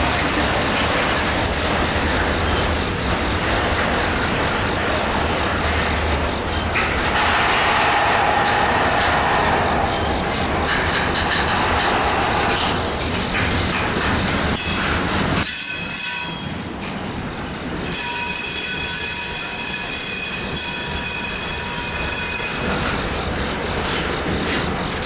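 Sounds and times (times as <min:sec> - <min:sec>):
train wheels squealing: 0:00.0 - 0:16.6, 0:17.8 - 0:25.0
rumble of freight cars: 0:00.0 - 0:25.0.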